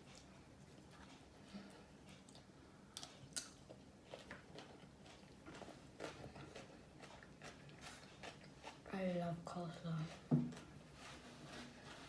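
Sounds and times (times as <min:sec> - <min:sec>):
quiet eating sounds: 0:00.0 - 0:12.0.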